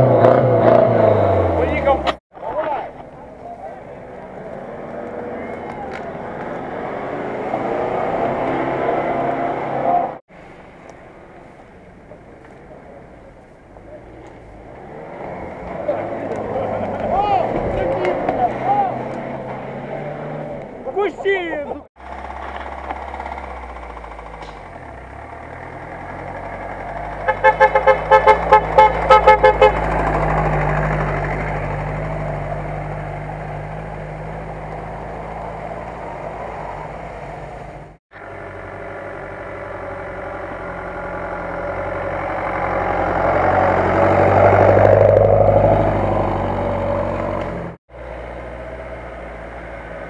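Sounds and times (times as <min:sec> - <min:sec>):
four-by-four engine passing: 0:00.0 - 0:02.2, 0:03.2 - 0:10.2, 0:13.9 - 0:50.0
off-road vehicle engine low revs: 0:00.0 - 0:10.2, 0:12.5 - 0:21.0, 0:22.0 - 0:50.0.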